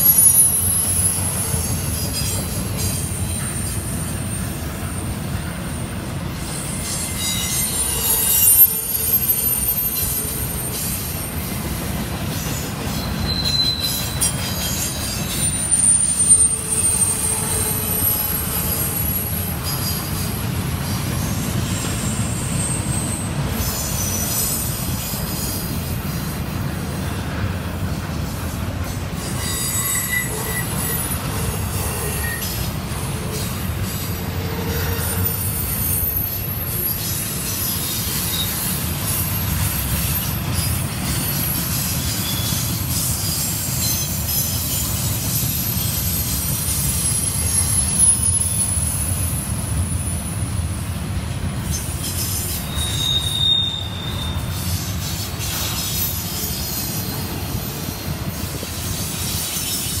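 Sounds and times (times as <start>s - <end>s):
high-pitched wheel squeals: 0.0s - 4.6s, 5.7s - 11.6s, 12.9s - 26.2s, 29.1s - 50.4s, 51.6s - 60.0s
train wheels rumbling on rails: 0.0s - 60.0s.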